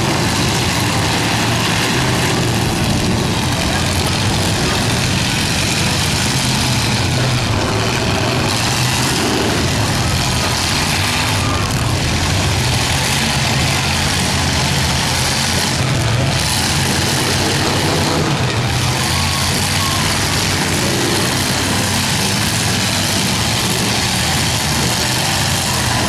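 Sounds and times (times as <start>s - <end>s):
car engines running loud: 0.0s - 26.0s.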